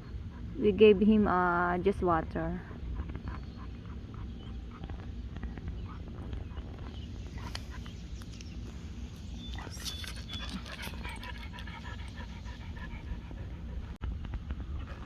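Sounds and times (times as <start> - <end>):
dog panting: 0.0 - 1.1, 2.6 - 14.0.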